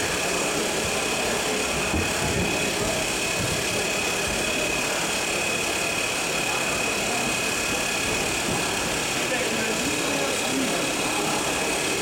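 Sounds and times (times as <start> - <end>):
toy truck motor hum and whine: 0.0 - 12.0.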